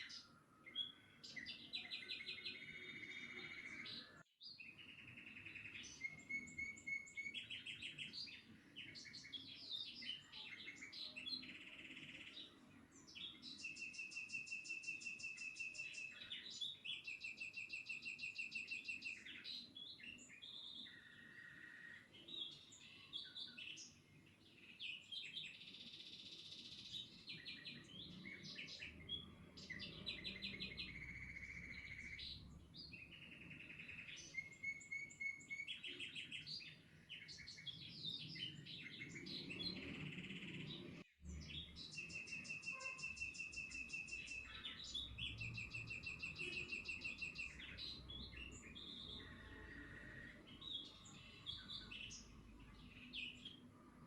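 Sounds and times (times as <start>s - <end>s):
birds singing and trilling: 0.0s - 54.0s.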